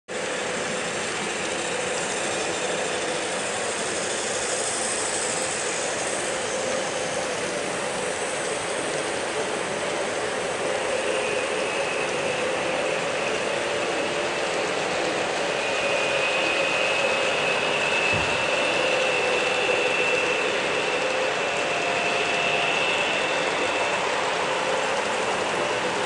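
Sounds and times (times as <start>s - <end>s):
model train whirring: 0.1s - 26.0s.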